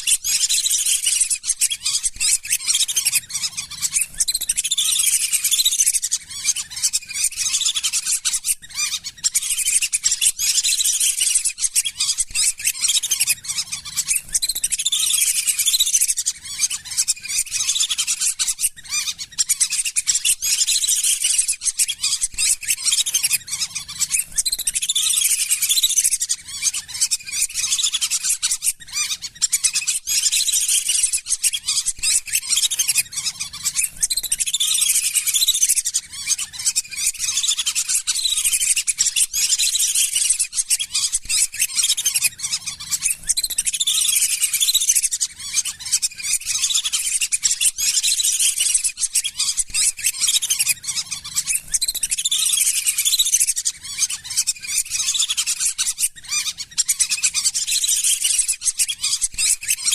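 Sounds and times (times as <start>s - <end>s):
ducks whistling calls: 0.0s - 59.9s.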